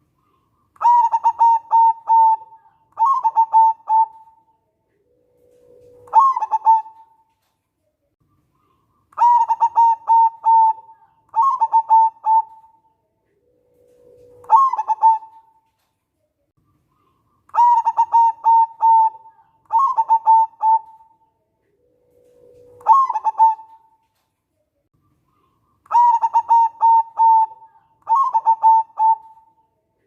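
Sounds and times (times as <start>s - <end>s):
dove cooing: 0.0s - 7.3s, 8.6s - 15.6s, 17.0s - 24.0s, 25.4s - 29.6s.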